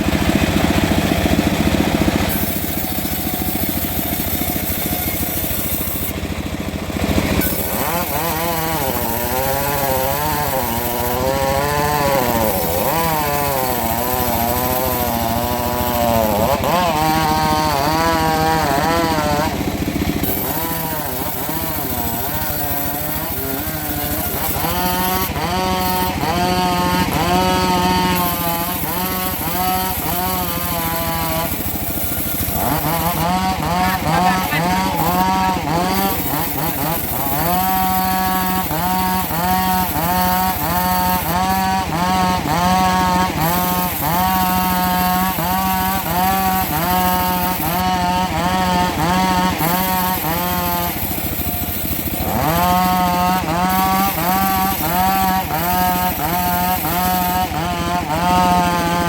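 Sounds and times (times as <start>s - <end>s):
engine-driven saw cutting wood: 0.0s - 59.0s.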